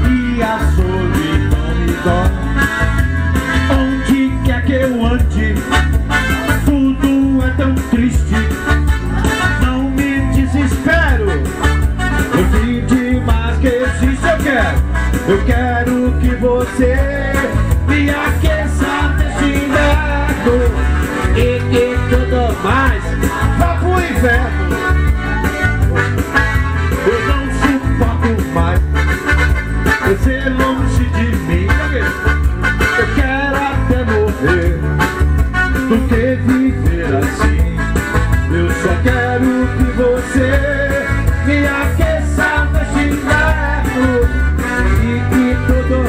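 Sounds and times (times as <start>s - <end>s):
electronic keyboard dance music: 0.0s - 46.0s.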